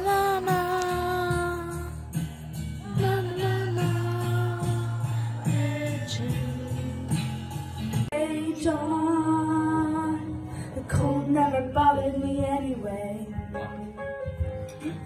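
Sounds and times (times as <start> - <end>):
backing music: 0.0 - 15.0
woman singing karaoke: 0.0 - 15.0.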